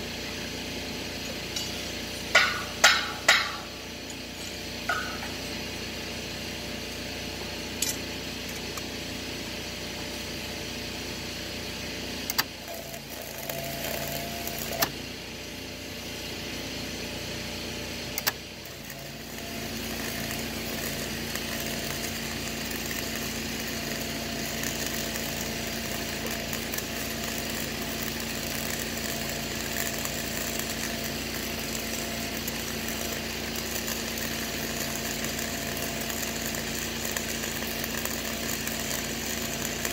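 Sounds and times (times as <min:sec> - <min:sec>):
wire welding crackling hiss: 0:00.0 - 0:39.9.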